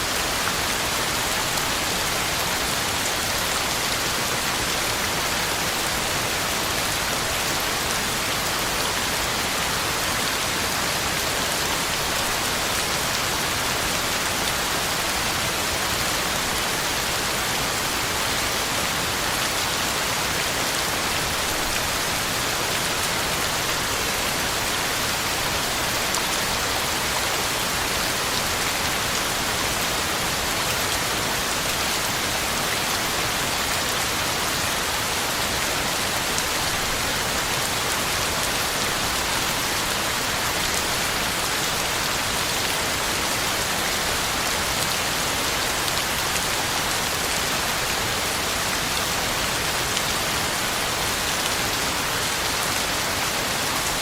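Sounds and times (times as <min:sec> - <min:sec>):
heavy rain on ground and leaves: 0:00.0 - 0:54.0.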